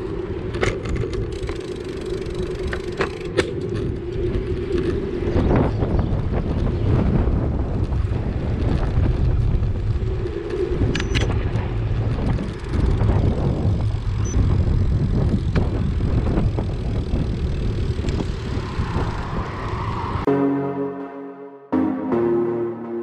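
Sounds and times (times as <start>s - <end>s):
wind buffeting microphone: 0.0s - 20.3s.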